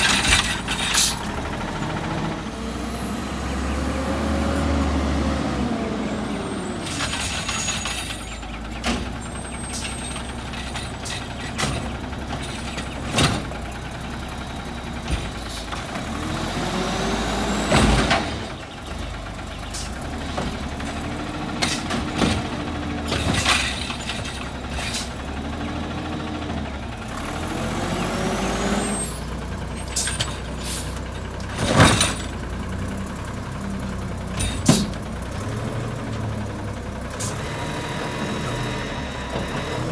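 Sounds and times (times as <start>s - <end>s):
garbage truck engine running: 0.0s - 39.9s
hydraulics whining: 0.0s - 39.9s.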